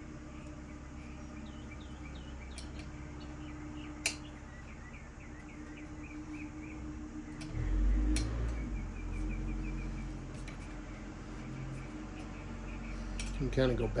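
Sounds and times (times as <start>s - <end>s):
steady low hum: 0.0s - 14.0s
small bird chirping: 0.3s - 13.6s.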